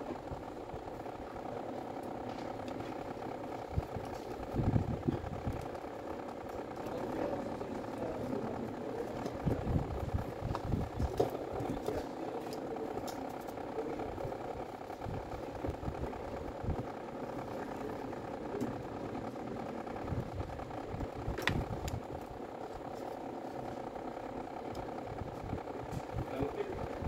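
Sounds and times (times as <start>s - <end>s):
steady machine hum: 0.0s - 27.0s
faint clicks and rustles: 0.1s - 27.0s.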